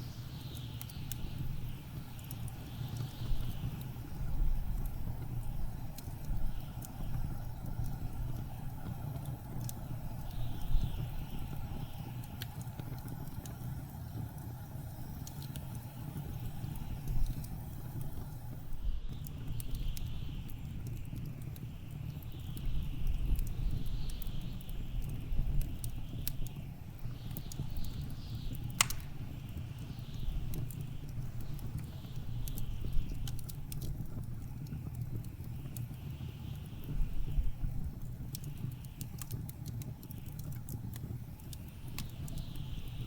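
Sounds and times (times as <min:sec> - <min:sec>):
low rumble of blizzard wind: 0:00.0 - 0:43.0
wood fire crackling and popping: 0:00.0 - 0:43.0.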